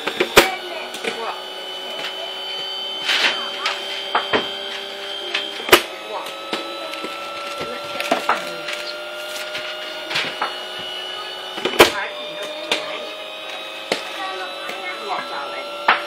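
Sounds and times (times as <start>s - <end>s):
bowling machine humming: 0.0s - 16.0s.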